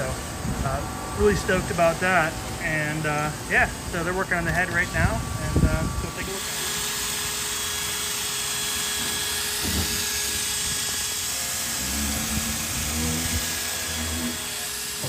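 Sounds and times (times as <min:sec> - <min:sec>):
thin constant tones: 0:00.0 - 0:15.0.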